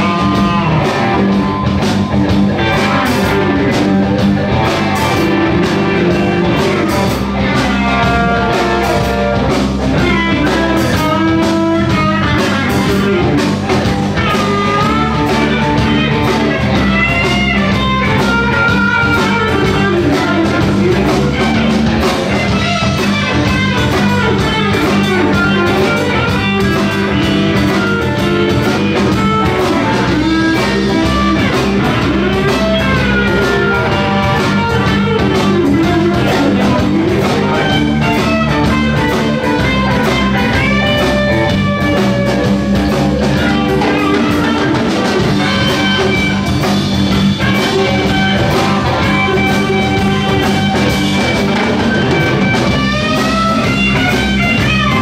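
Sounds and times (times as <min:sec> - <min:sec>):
drum-kit beat: 0:00.0 - 0:55.0
electric bass: 0:00.0 - 0:55.0
electric guitar lead: 0:00.0 - 0:55.0.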